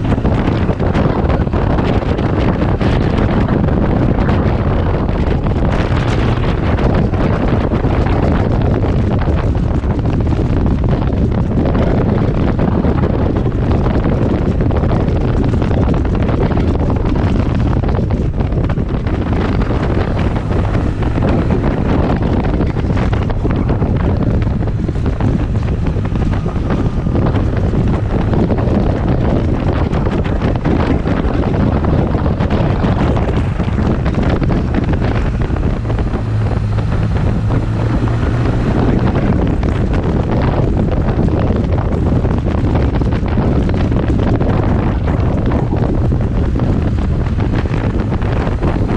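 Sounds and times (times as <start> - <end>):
motorcycle engine drone: 0.0 - 48.9
wind rushing over microphone: 0.0 - 48.9.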